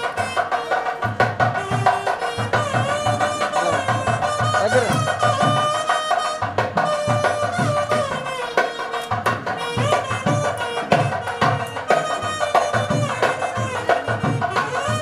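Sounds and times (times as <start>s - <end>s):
drum strokes: 0.0s - 15.0s
held melodic line: 0.0s - 15.0s.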